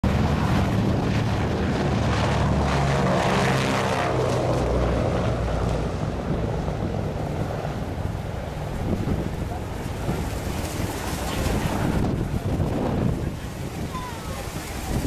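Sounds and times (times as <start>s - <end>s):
propeller airliner taking off: 0.0s - 15.0s.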